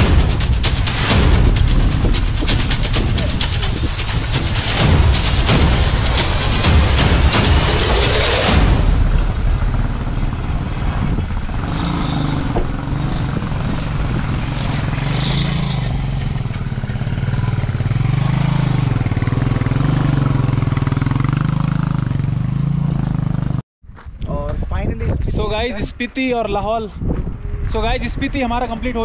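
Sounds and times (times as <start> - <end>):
vehicle engine revving: 0.0 - 23.6.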